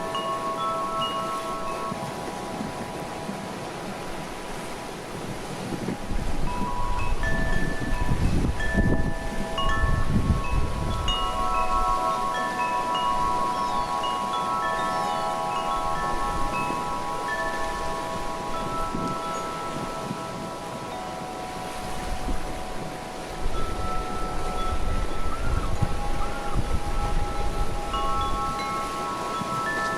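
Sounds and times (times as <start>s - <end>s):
wind chime ringing: 0.0s - 5.0s, 5.8s - 29.9s
wind rumble on microphone: 0.0s - 29.9s.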